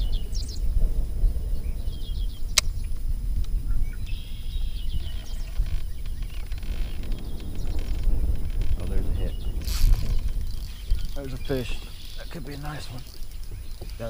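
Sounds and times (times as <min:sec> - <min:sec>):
birds chirping in trills: 0:00.0 - 0:14.0
low outdoor rumble: 0:00.0 - 0:14.0.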